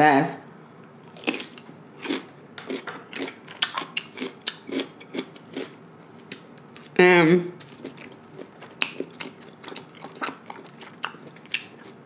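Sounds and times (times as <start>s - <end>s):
chewing crunchy cucumber: 1.0s - 7.0s, 7.6s - 12.0s.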